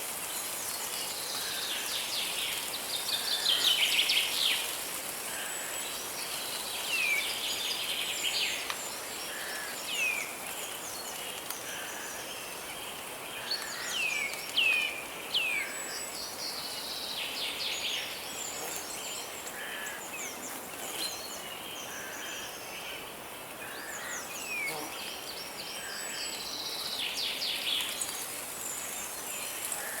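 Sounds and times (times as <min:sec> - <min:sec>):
flowing river hiss: 0:00.0 - 0:30.0.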